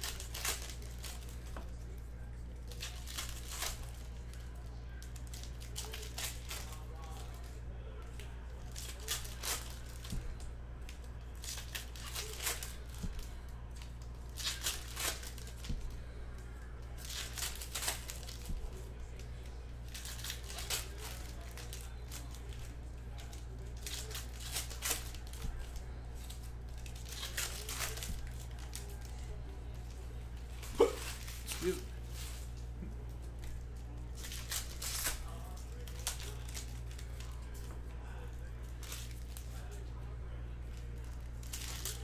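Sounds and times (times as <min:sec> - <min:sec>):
foil wrappers tearing and crinkling: 0:00.0 - 0:32.6, 0:33.4 - 0:39.9, 0:40.7 - 0:42.0
steady low hum: 0:00.0 - 0:42.0.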